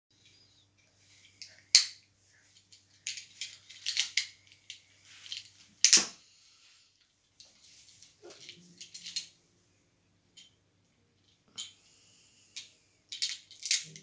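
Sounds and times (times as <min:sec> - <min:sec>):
faint low hum: 0:00.1 - 0:14.0.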